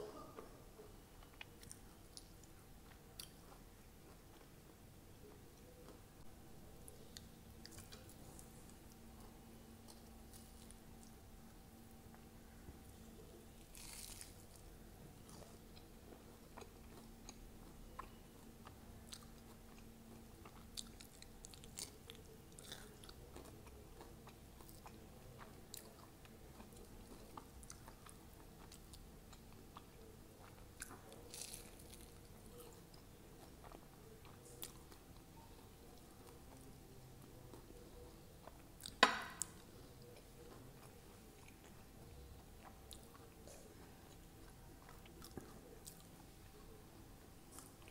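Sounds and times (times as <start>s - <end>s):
chewing crunchy fritter: 1.0s - 47.9s.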